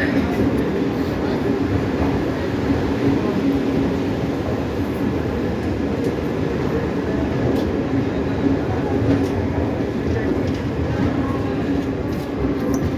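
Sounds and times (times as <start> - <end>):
train running on rails: 0.0 - 12.9.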